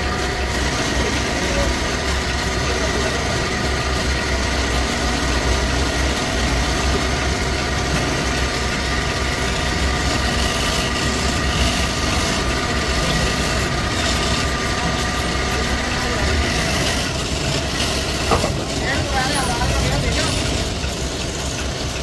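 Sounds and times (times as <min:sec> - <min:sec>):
machine motor humming: 0:00.0 - 0:22.0.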